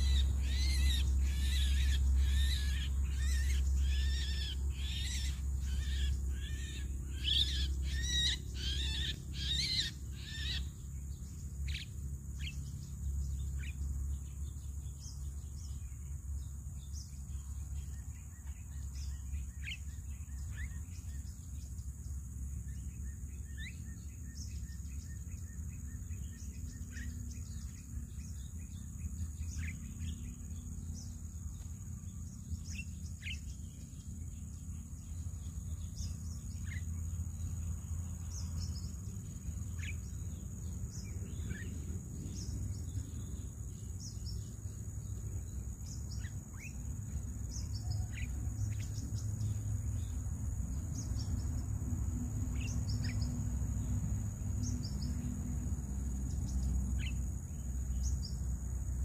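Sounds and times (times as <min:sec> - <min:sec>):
constant low rumble: 0:00.0 - 0:59.0
high-pitched insect drone: 0:00.0 - 0:59.0.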